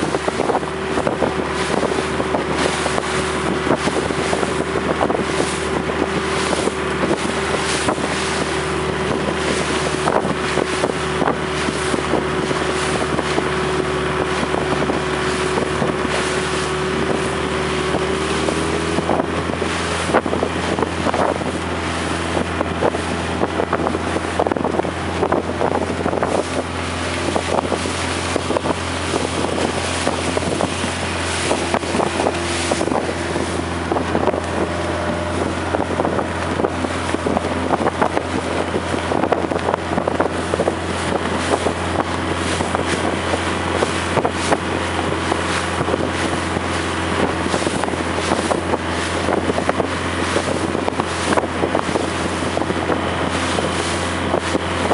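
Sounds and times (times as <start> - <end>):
boat engine running: 0.0 - 54.9
wind buffeting microphone: 0.0 - 54.9.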